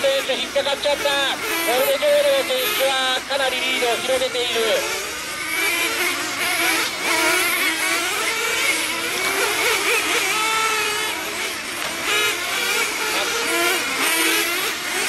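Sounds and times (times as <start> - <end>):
small engines buzzing: 0.0 - 15.0.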